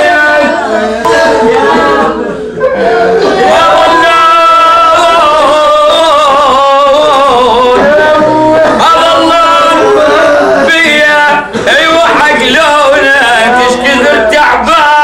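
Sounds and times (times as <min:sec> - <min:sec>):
man singing a lament: 0:00.0 - 0:15.0.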